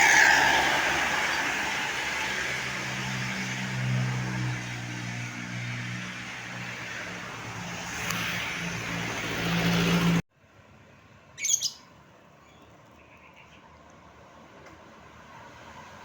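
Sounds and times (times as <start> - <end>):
heavy road vehicle passing: 0.0 - 10.8, 13.6 - 16.0
quiet traffic background: 0.0 - 16.0.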